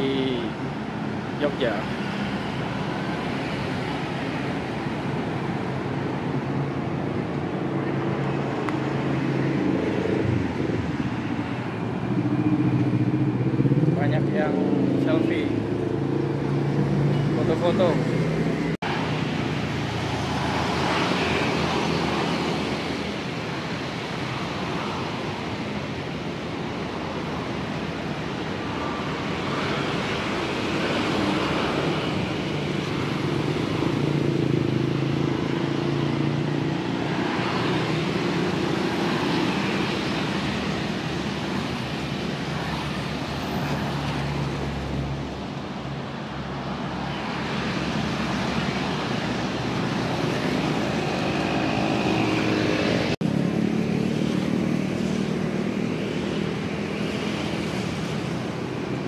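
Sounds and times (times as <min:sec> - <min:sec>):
road traffic hum: 0:00.0 - 0:59.0
vehicles passing: 0:00.0 - 0:59.0.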